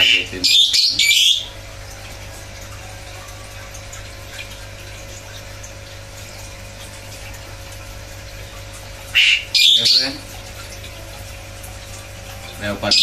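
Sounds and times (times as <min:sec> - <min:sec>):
low pump hum: 0:00.0 - 0:13.0
water trickling: 0:00.0 - 0:13.0.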